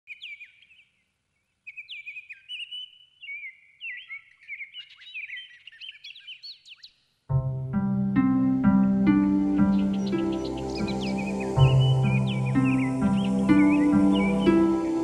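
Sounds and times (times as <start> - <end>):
songbirds twittering: 0.1 - 7.2, 7.8 - 15.0.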